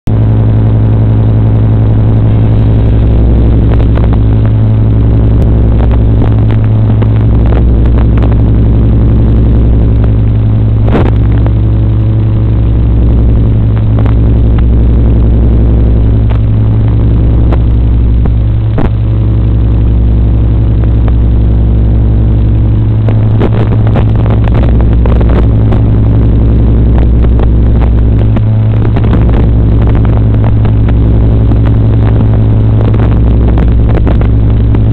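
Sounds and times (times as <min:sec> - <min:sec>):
droning buzz: 0:00.0 - 0:34.9
interference crackles and clicks: 0:00.0 - 0:34.9.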